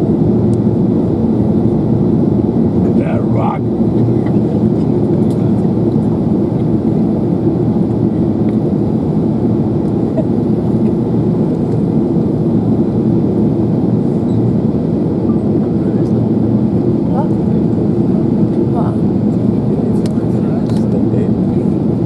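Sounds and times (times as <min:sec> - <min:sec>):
airplane cabin engine roar: 0:00.0 - 0:22.0.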